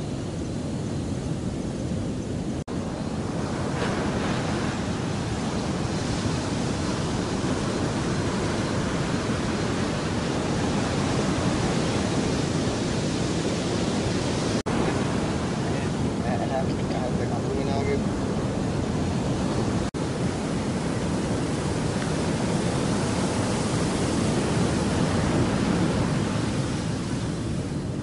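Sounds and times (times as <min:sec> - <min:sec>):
surf breaking on shore: 0:00.0 - 0:28.0
wind on microphone: 0:00.0 - 0:28.0.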